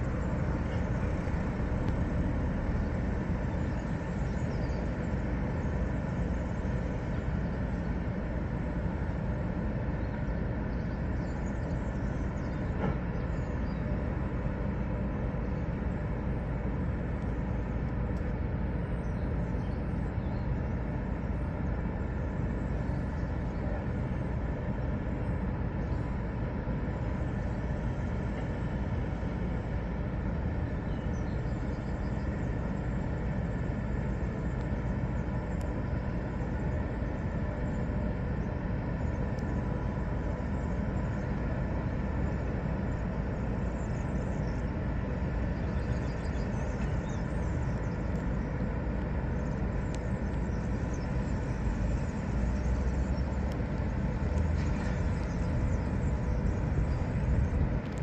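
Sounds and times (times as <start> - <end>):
continuous low rumble: 0.0 - 58.0
faint machinery hum: 0.0 - 58.0.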